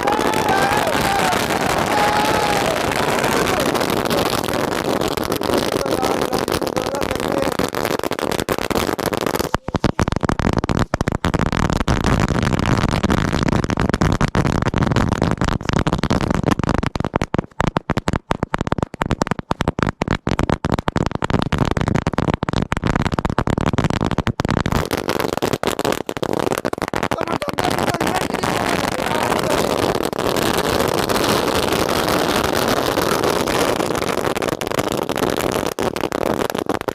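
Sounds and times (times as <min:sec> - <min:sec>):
firecracker string crackling: 0:00.0 - 0:36.9.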